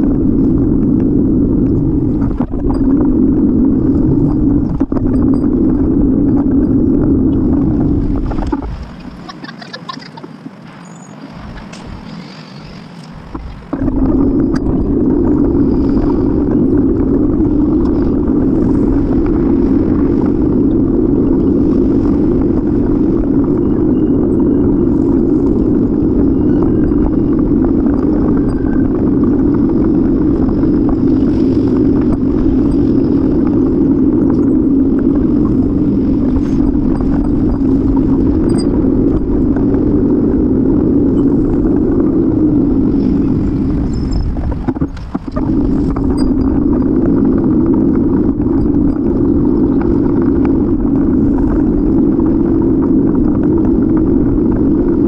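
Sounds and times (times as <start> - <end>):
bicycle road noise: 0.0 - 55.0
wind rumbling: 0.0 - 55.0.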